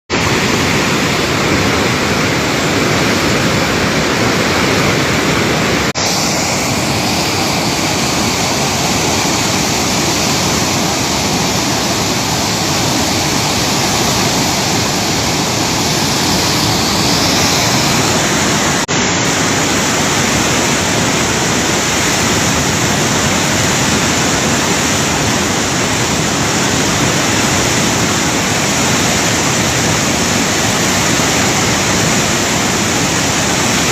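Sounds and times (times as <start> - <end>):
river torrent rushing: 0.1 - 33.9.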